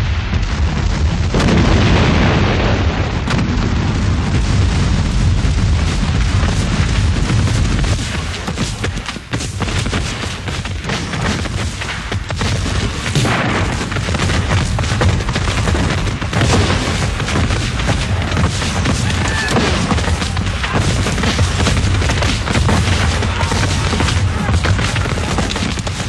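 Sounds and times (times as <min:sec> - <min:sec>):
booms: 0:00.0 - 0:26.0
musket fire: 0:00.0 - 0:26.0.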